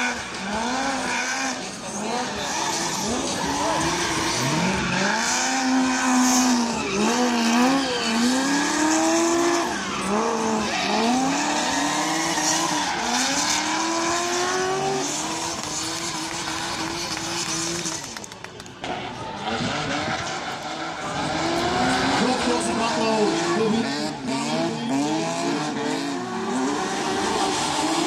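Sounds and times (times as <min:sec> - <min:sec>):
car engine revving hard: 0:00.0 - 0:18.1, 0:19.4 - 0:28.0.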